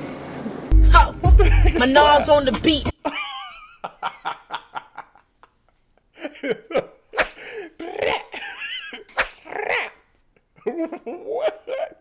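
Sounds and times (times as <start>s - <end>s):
man laughing: 1.0s - 7.1s, 7.7s - 12.0s.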